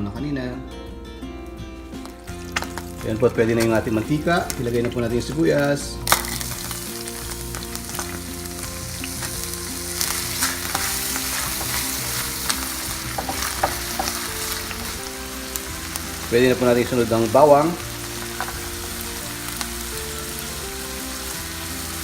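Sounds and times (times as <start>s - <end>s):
shallot sizzling in hot oil: 1.8s - 22.0s.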